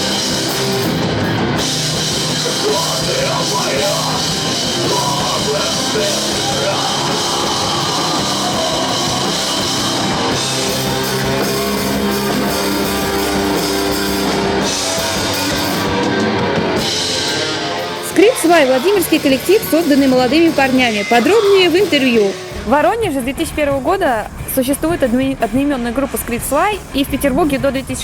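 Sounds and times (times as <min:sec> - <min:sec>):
heavy guitar rock band: 0:00.0 - 0:28.0.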